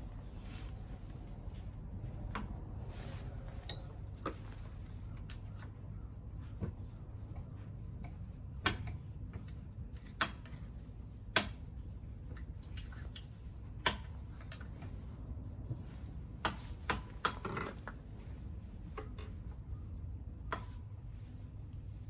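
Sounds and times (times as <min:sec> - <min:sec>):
light clicks and knocks of tools: 0:00.6 - 0:11.6, 0:12.2 - 0:18.1, 0:18.8 - 0:20.9.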